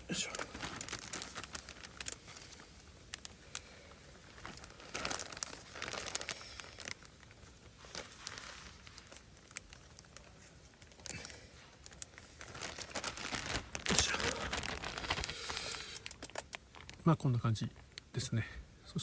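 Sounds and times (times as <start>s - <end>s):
plastic bag crinkling: 0.0s - 18.2s.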